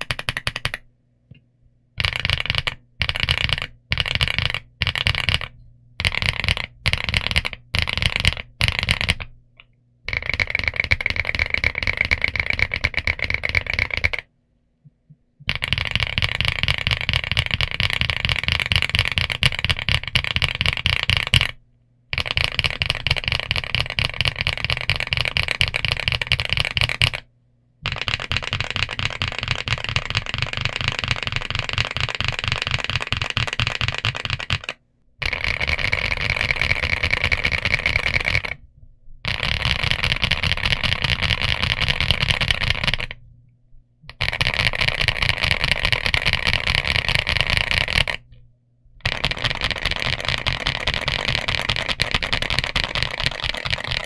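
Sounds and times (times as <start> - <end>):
mechanical keyboard typing: 0.0 - 0.9, 2.0 - 9.4, 10.1 - 14.3, 15.4 - 38.6, 39.2 - 43.2, 44.1 - 48.3, 49.0 - 54.0.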